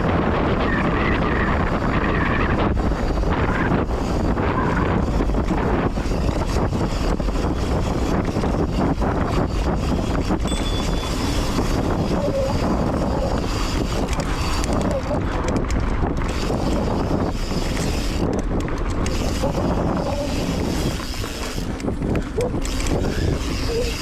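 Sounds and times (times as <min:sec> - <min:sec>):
bike rolling over dirt trail: 0:00.0 - 0:24.0
wind on microphone: 0:00.0 - 0:24.0.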